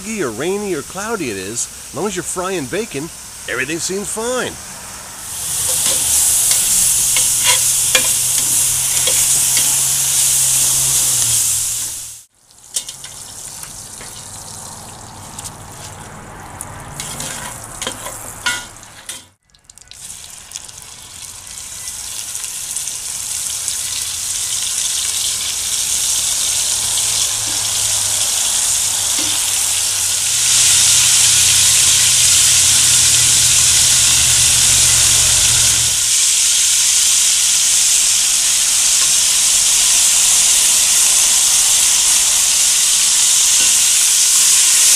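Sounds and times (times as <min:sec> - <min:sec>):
fat sizzling in a pot: 0:00.0 - 0:44.9.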